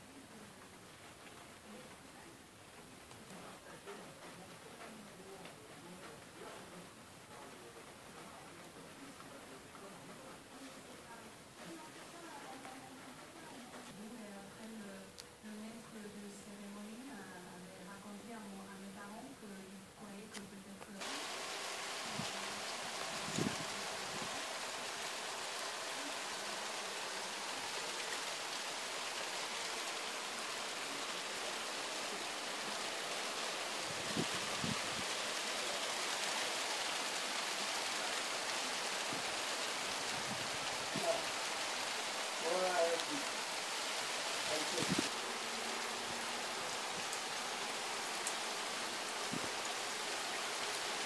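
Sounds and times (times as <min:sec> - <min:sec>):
rain on foliage: 0:00.0 - 0:51.0.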